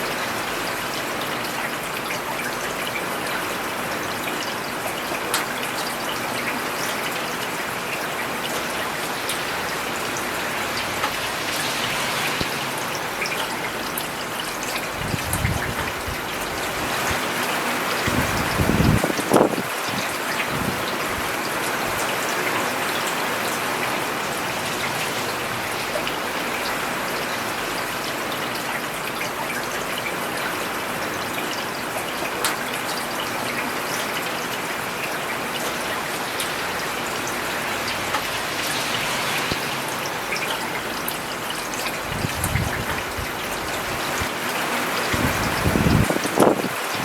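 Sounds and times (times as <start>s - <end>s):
rain falling on a road: 0.0s - 47.0s.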